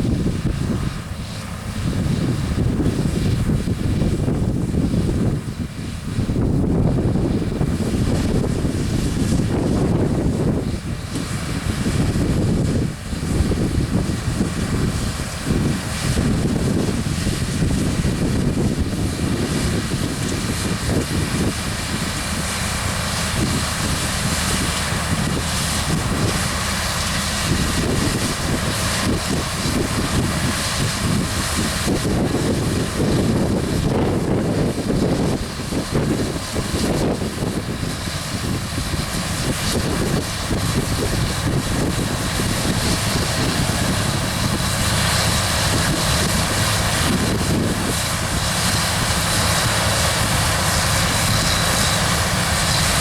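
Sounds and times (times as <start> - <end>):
combine harvester droning: 0.0 - 53.0.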